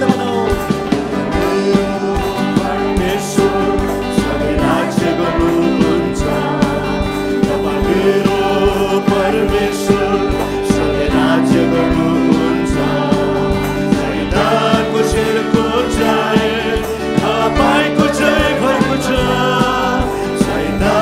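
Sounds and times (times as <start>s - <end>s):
acoustic guitar: 0.0s - 21.0s
men singing worship song: 0.0s - 21.0s
steady beat: 0.0s - 21.0s.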